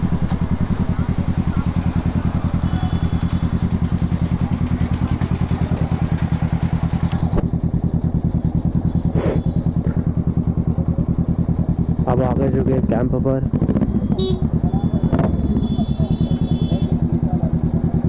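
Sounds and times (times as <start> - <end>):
motorcycle engine running at low revs: 0.0 - 18.0.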